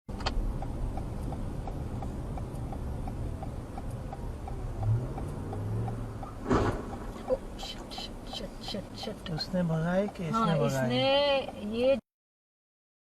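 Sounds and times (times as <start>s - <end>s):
car engine and road rumble: 0.1s - 12.0s
turn signal clicking: 0.1s - 12.0s.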